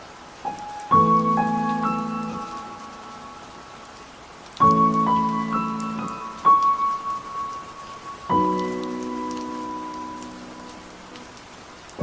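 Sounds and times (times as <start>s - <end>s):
rain-like hiss: 0.0s - 12.0s.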